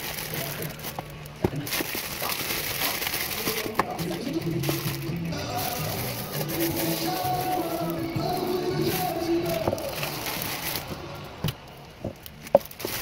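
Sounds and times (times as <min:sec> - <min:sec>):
paper bag rustling: 0:00.0 - 0:13.0
plastic wrapping crinkling: 0:00.0 - 0:13.0.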